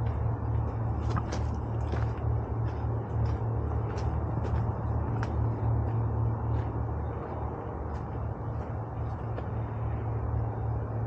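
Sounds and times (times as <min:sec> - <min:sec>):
footsteps on sandy trail: 0:00.0 - 0:11.0.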